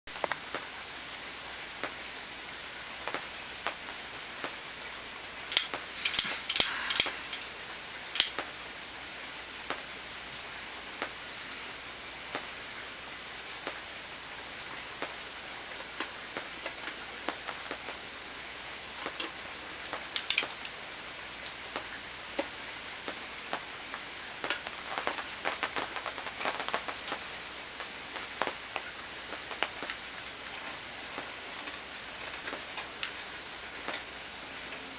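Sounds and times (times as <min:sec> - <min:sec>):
rain drops tapping on tent: 0:00.1 - 0:08.8, 0:09.5 - 0:10.0, 0:10.8 - 0:34.9
fountain splashing: 0:00.1 - 0:34.9.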